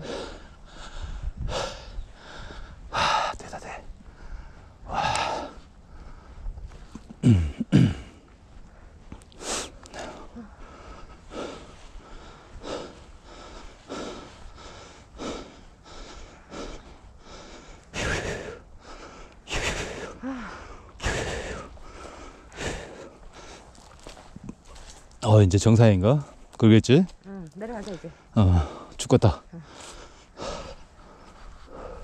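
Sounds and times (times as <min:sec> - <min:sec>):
hard rhythmic breathing: 0:00.0 - 0:25.2, 0:27.6 - 0:32.0.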